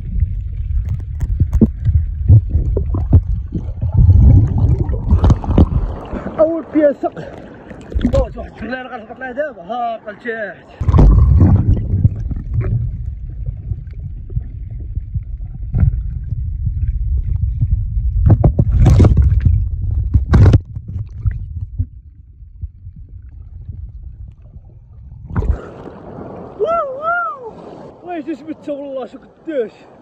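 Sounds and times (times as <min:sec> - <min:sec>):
underwater rumble: 0:00.0 - 0:06.7, 0:07.4 - 0:08.6, 0:10.8 - 0:28.0
water splash: 0:00.2 - 0:08.5, 0:10.8 - 0:21.9, 0:23.3 - 0:28.0.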